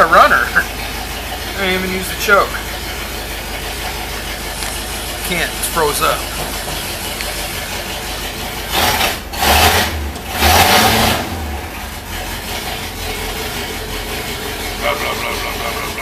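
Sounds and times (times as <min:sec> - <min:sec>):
bus engine revving and idling: 0:00.0 - 0:16.0.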